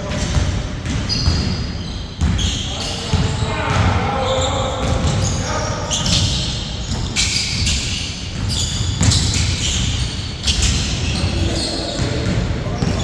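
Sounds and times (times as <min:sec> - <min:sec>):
basketball bouncing on court: 0:00.0 - 0:13.0
sneaker squeaks on floor: 0:00.0 - 0:13.0.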